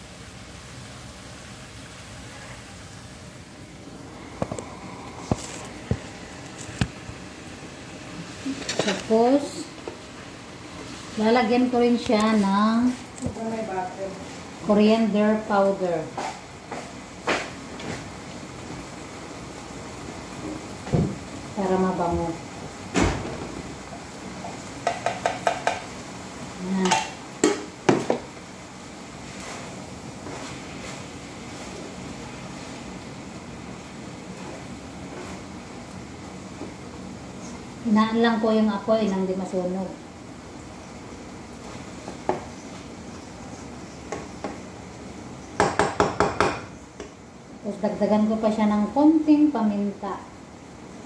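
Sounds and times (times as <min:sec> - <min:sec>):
liver frying in a pan: 0:00.0 - 0:51.0.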